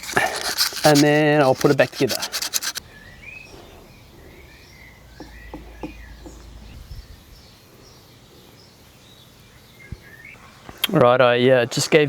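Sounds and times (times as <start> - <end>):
birds chirping: 0.0 - 10.7.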